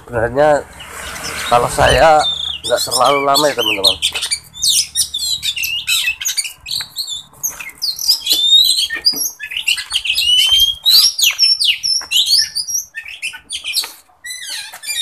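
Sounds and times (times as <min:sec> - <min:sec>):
birds singing whistles and chirps: 0:00.7 - 0:15.0.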